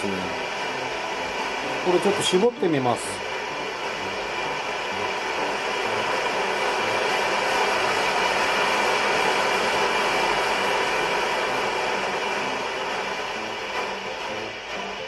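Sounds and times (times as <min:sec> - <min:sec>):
pressurised stove burner hissing: 0:00.0 - 0:15.0.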